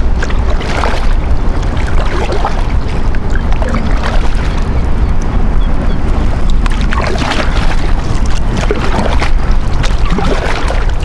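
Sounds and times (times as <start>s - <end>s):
paddle blades splashing water: 0.0s - 5.3s, 6.2s - 11.0s
wind buffeting microphone: 0.0s - 11.0s.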